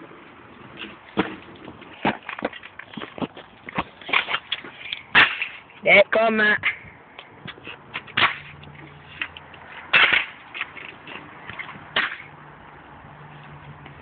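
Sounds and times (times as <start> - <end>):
scooter clacking on asphalt: 0.5 - 12.4.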